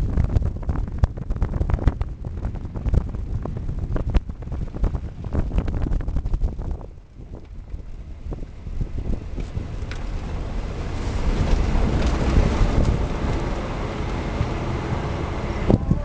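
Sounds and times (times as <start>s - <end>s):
low rumbling noise: 0.0s - 16.0s
wind buffeting microphone: 0.0s - 16.0s.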